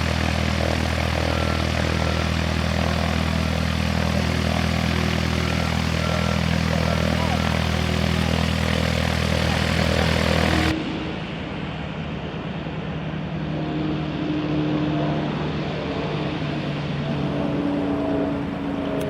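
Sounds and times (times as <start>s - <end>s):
dull engine drone: 0.0s - 19.0s
propeller aircraft engine drone: 0.0s - 19.0s.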